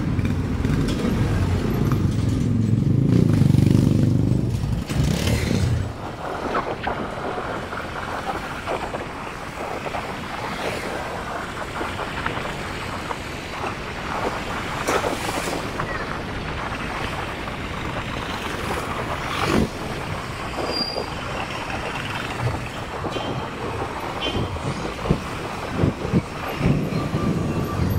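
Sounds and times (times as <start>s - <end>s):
vehicle ride rumble: 0.0s - 27.9s
wind on microphone: 4.2s - 27.9s.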